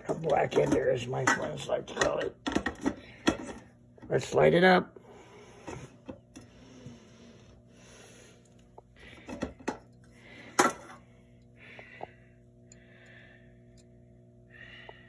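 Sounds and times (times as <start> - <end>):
fluorescent ballast humming: 0.0 - 15.0.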